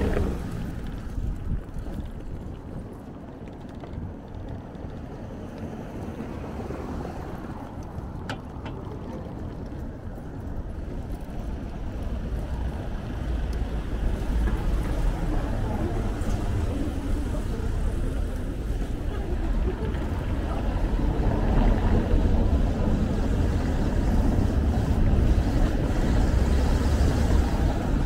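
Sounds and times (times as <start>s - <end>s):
street traffic: 0.0s - 28.0s
wind rumble on microphone: 0.0s - 28.0s.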